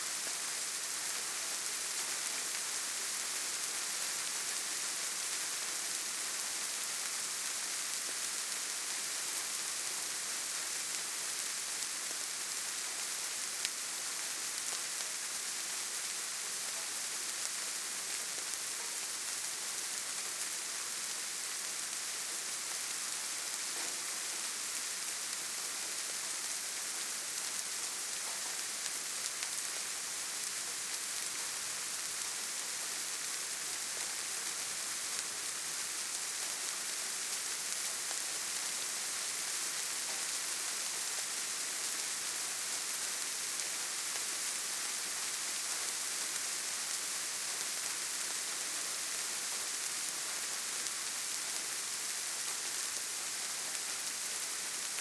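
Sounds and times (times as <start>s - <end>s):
rain on foliage and ground: 0.0s - 55.0s.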